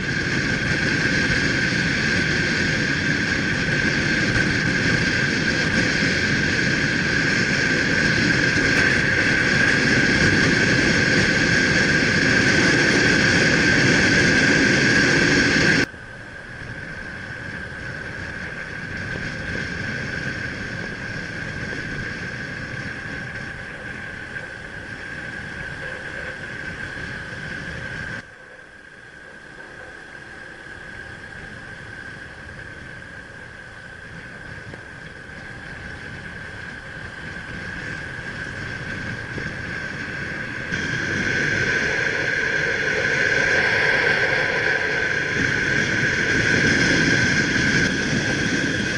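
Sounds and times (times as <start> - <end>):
high whine: 0.0 - 48.9
motorbike engine and road noise: 0.0 - 48.9.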